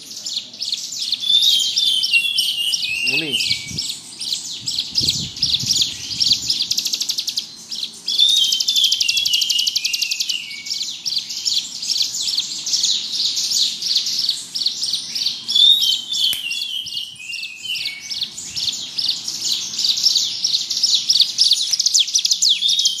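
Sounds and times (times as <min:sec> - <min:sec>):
bird singing buzzing trills: 0:00.0 - 0:23.0
lower bird twittering: 0:00.0 - 0:23.0.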